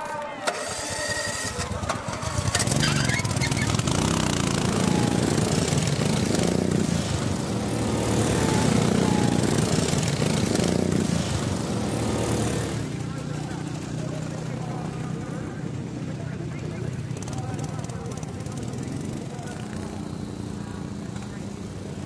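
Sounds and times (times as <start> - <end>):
lawn mower engines revving: 0.0 - 22.0.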